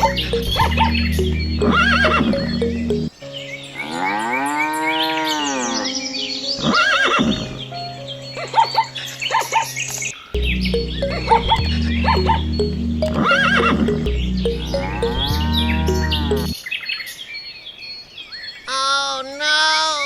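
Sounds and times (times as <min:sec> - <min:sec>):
background music: 0:00.0 - 0:16.6
bird chirps: 0:00.0 - 0:18.7.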